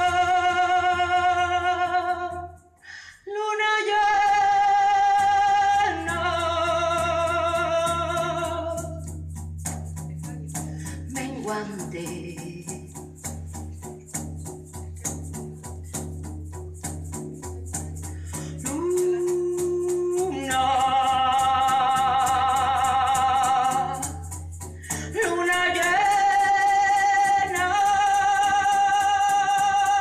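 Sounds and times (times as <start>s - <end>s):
rattle-like hand percussion beat: 0.0s - 2.8s, 3.9s - 30.0s.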